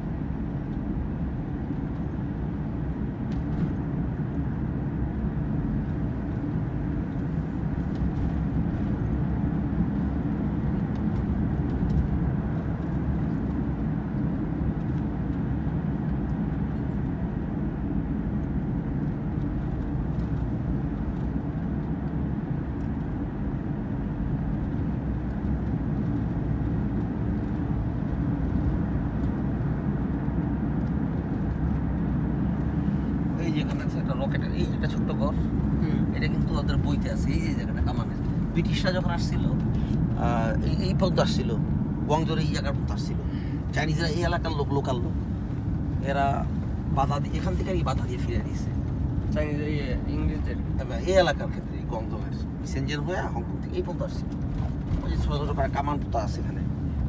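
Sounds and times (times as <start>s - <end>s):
car cabin road and engine rumble: 0.0s - 57.0s.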